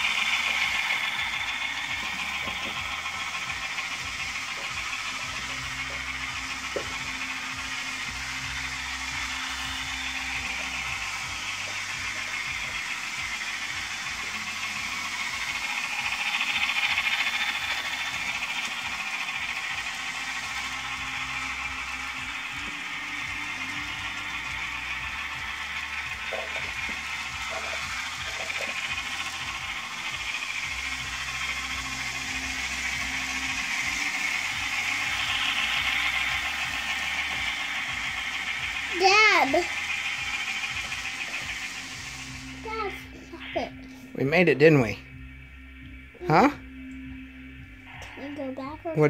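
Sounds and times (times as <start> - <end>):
model train motor whirring: 0.0 - 49.0.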